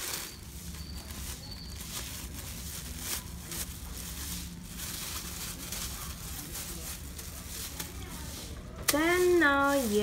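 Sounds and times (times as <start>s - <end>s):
plastic gloves crinkling: 0.0s - 10.0s.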